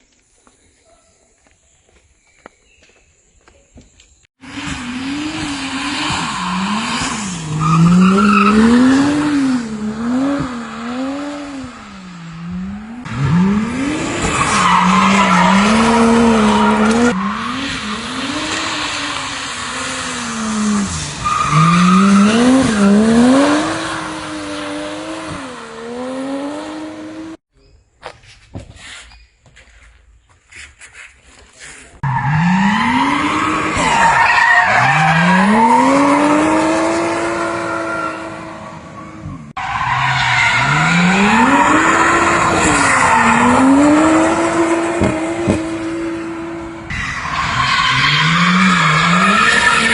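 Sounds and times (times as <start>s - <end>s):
car engine revving: 4.4s - 27.4s, 32.0s - 49.9s
tyres squealing and skidding: 4.5s - 27.4s, 30.5s - 49.9s.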